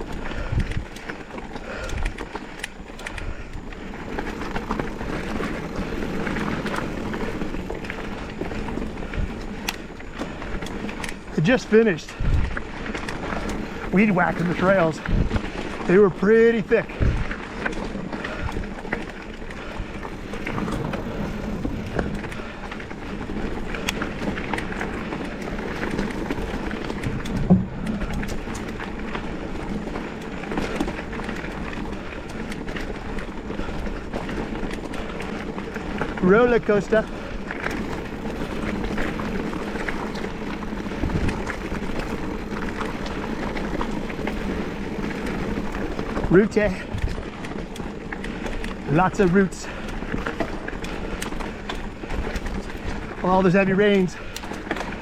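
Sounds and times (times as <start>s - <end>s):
bike clicks and rattles: 0.0s - 55.0s
bike tyre and wind noise: 0.0s - 55.0s.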